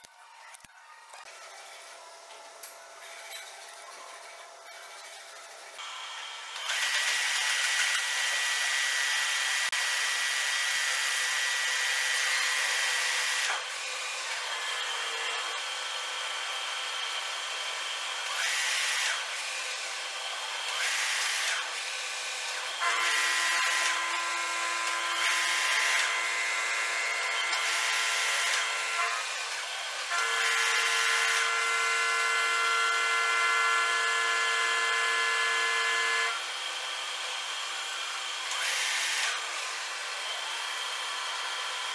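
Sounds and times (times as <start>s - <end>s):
metal lathe whining: 4.2s - 41.9s.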